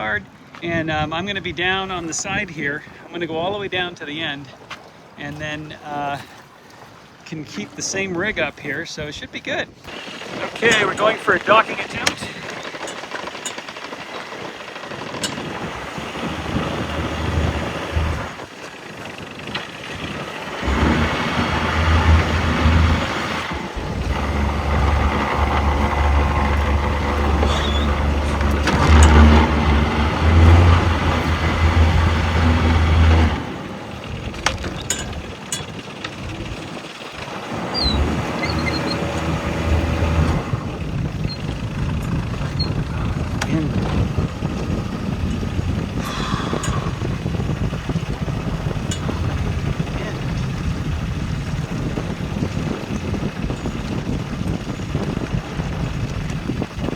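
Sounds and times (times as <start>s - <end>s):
boat diesel engine running: 9.8s - 56.9s.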